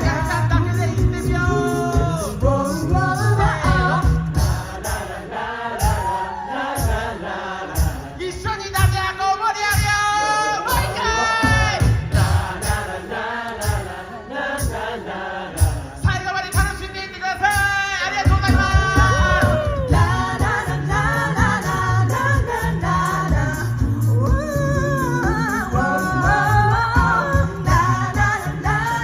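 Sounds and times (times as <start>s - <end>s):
a cappella group singing: 0.0s - 29.0s.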